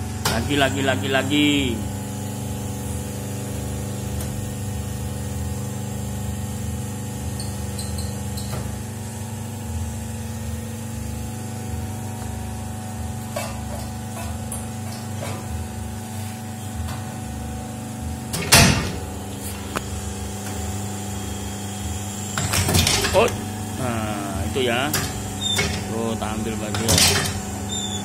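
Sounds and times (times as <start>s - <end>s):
machine motor hum: 0.0s - 28.0s.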